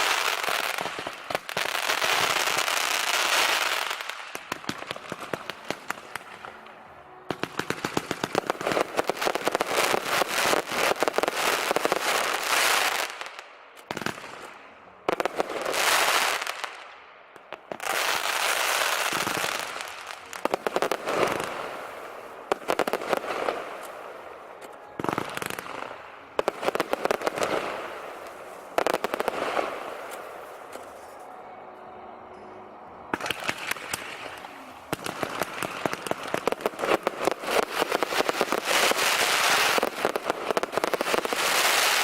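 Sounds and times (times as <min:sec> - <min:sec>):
fireworks bangs: 0:00.0 - 0:16.8, 0:17.4 - 0:31.4, 0:33.0 - 0:42.0
fireworks crackling: 0:00.0 - 0:31.8, 0:33.1 - 0:42.0.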